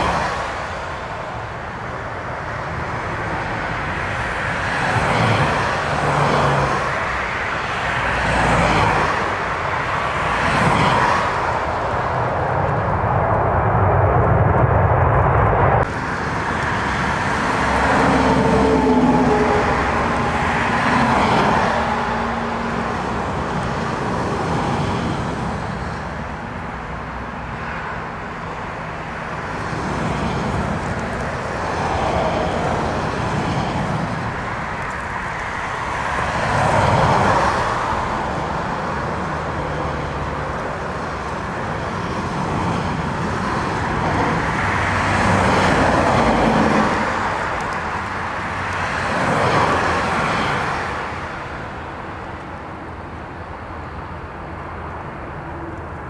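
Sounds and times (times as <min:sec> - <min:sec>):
gusting storm wind: 0:00.0 - 0:56.0
jet engines rumbling: 0:00.0 - 0:56.0.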